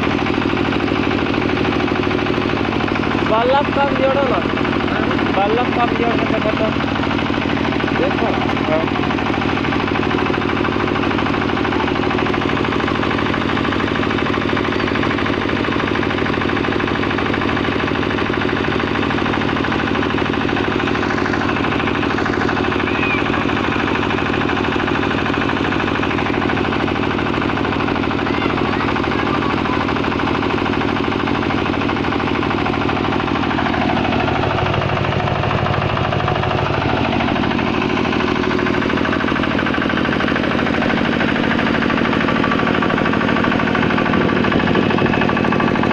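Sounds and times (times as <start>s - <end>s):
diesel generator running: 0.0s - 45.9s.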